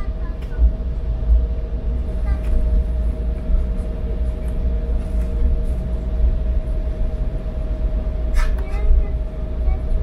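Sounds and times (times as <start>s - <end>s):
aircraft rolling rumble: 0.0s - 10.0s
jet engine whine: 0.0s - 10.0s.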